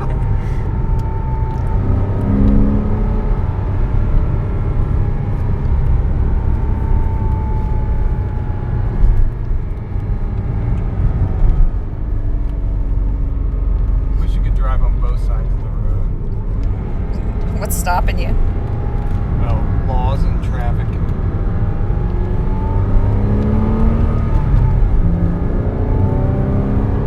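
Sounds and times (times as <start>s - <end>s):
car engine rumble: 0.0s - 27.0s
tyre and road noise: 0.0s - 27.0s.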